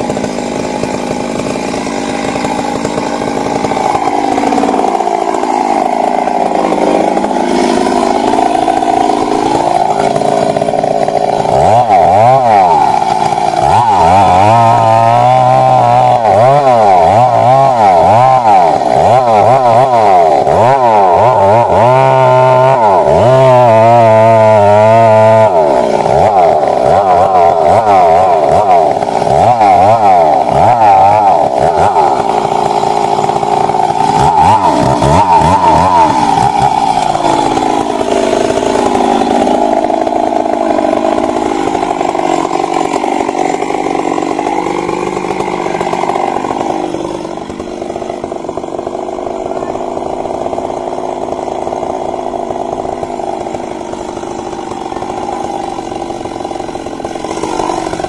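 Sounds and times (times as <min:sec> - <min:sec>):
chainsaw running hard: 0:00.0 - 0:58.0.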